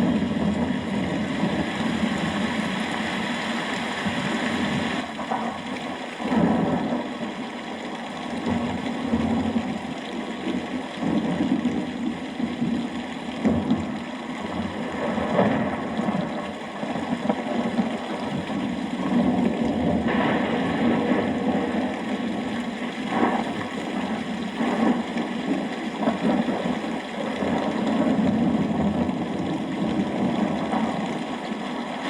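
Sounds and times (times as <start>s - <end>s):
steady rain: 0.0s - 32.0s
thunder rumbling: 0.0s - 32.0s.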